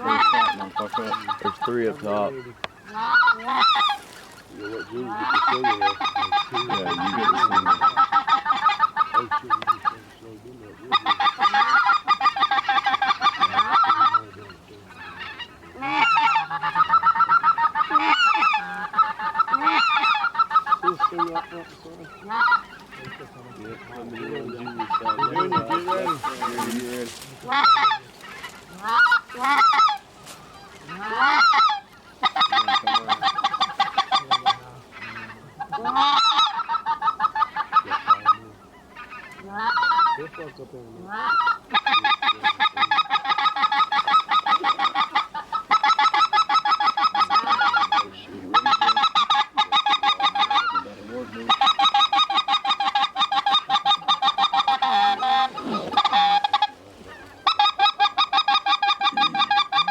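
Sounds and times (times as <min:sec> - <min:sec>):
goose honking and clucking: 0:00.0 - 0:59.9.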